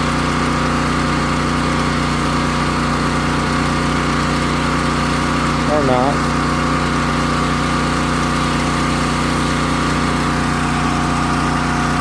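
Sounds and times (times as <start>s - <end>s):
jetter engine and pump running: 0.0s - 12.0s.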